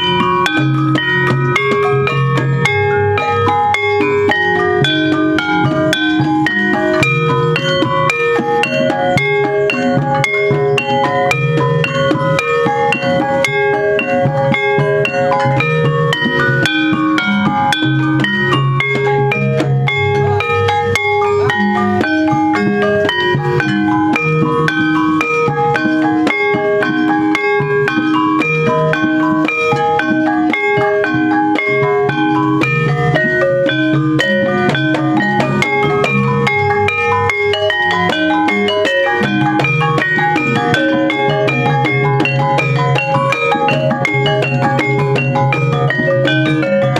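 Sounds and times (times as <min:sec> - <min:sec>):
gamelan ensemble playing: 0:00.0 - 0:46.9.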